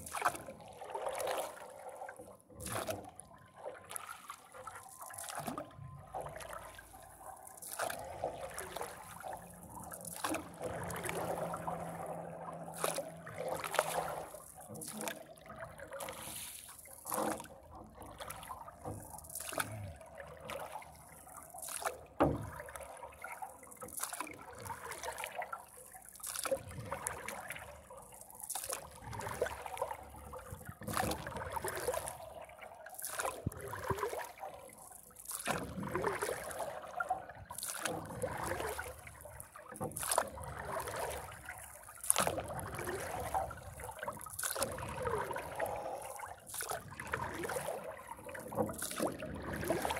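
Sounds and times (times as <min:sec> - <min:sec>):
paddle splashing in water: 0:00.0 - 0:49.9
water trickling and sloshing: 0:00.0 - 0:49.9.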